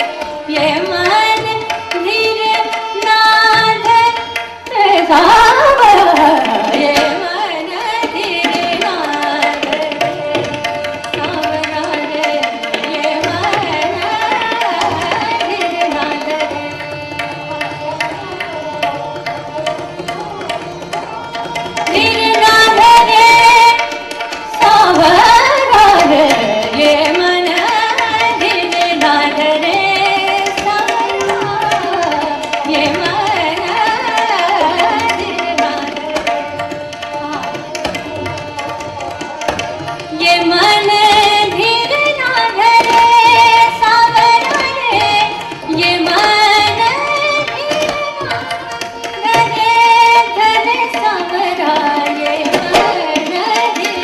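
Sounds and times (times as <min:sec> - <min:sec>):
tabla playing: 0:00.0 - 0:54.0
tanpura drone: 0:00.0 - 0:54.0.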